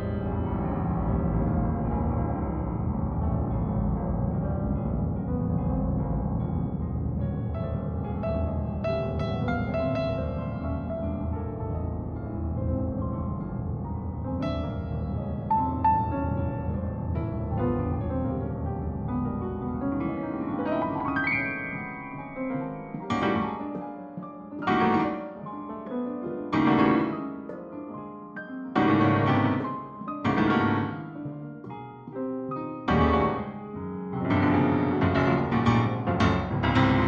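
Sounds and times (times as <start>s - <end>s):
piano chords: 0.0s - 37.0s.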